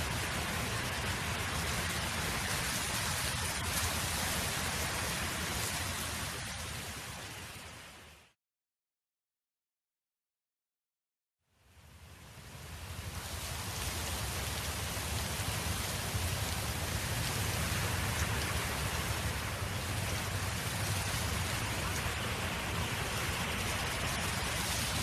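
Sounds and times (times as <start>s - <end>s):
wind rushing with low rumble: 0.0s - 8.3s, 11.7s - 25.0s.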